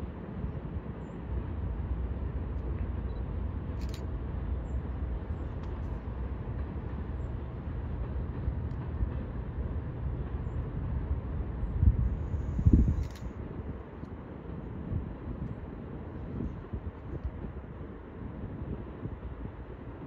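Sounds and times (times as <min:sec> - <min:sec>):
freight train rumbling on rails: 0:00.0 - 0:20.0.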